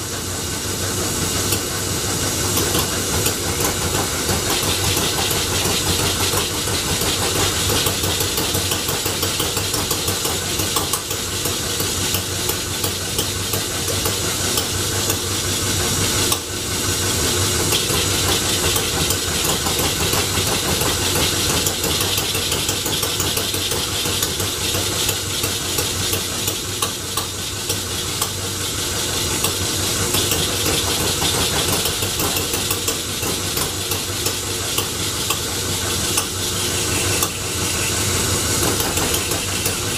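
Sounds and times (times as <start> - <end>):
engine clatter: 1.2 - 16.6, 17.6 - 37.5, 38.4 - 39.9.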